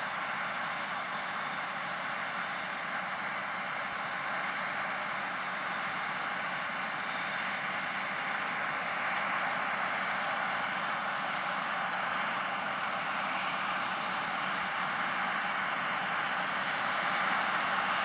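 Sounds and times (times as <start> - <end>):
tractor and spreader running: 0.0 - 18.0.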